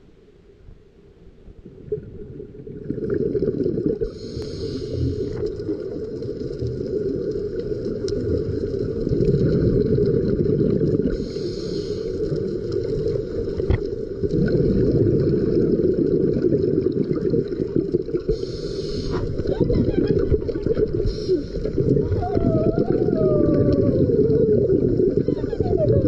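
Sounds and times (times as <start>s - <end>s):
muffled underwater water rumble: 0.0s - 26.0s.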